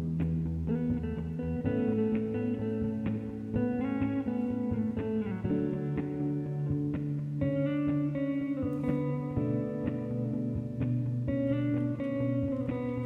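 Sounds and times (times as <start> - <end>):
bass line: 0.0 - 13.0
plucked and strummed guitar: 0.0 - 13.0.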